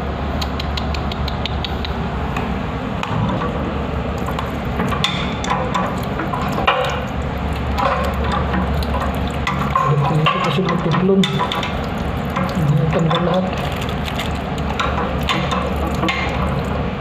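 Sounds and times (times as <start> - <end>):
steady low hum: 0.0 - 17.0
water running: 3.1 - 17.0.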